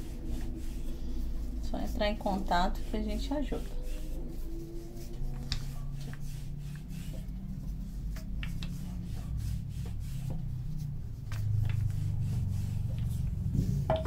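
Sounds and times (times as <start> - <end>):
rolling pin rolling over dough: 0.0 - 14.0.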